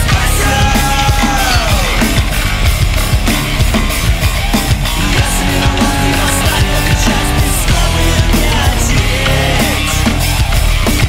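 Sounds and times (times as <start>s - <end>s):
cymbal crashes: 0.0s - 11.0s
heavy rock music: 0.0s - 11.0s.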